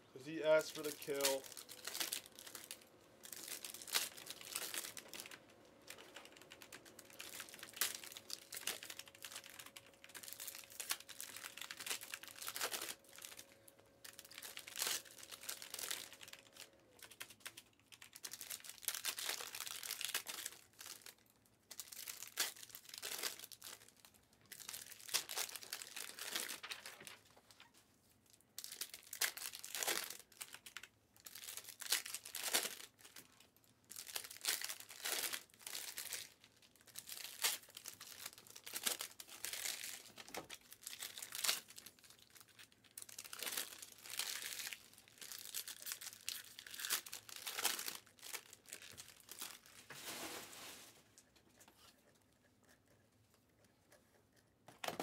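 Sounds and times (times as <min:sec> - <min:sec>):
foil wrappers tearing and crinkling: 0:00.4 - 0:27.2, 0:28.6 - 0:50.9.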